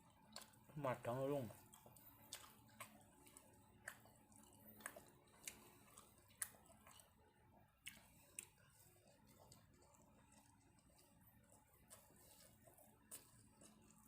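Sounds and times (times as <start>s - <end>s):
faint chewing: 0.0s - 14.0s.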